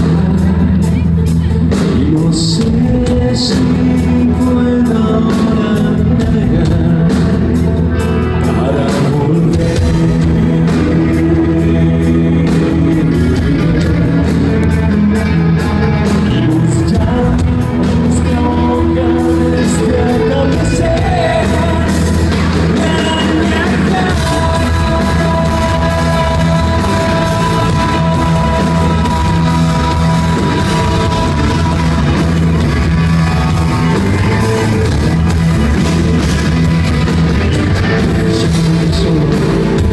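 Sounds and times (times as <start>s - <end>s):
acoustic guitar: 0.0s - 39.9s
live rock band playing: 0.0s - 39.9s
man singing: 0.0s - 39.9s.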